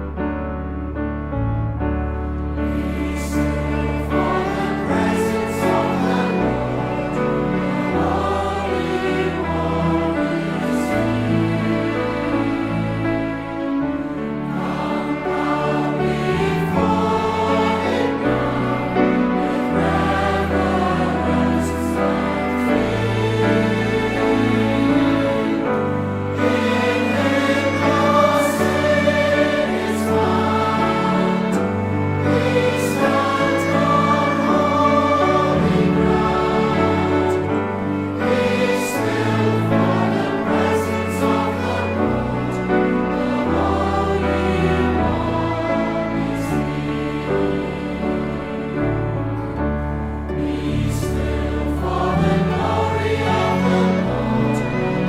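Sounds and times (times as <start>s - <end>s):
low accompaniment: 0.0s - 55.0s
choir singing: 1.3s - 55.0s.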